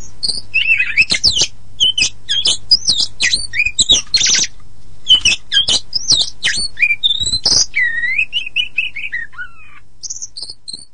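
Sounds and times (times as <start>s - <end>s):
bird singing whistles and buzzy notes: 0.0s - 10.9s
low steady hum: 0.0s - 10.9s.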